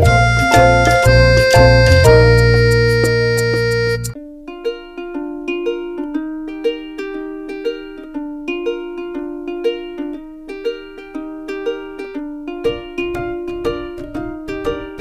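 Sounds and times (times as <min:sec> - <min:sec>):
light plucked-string tune: 0:00.0 - 0:15.0.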